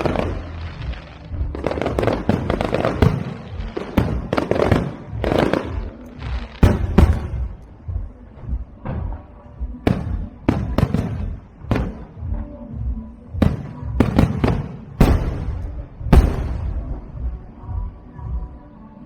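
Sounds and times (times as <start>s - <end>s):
fireworks bursting: 0.0s - 9.2s, 9.8s - 12.5s, 13.4s - 17.6s.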